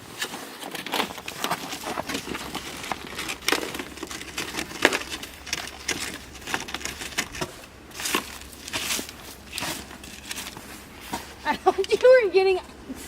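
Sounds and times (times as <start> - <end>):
snow shovel scraping ice: 0.0 - 13.0.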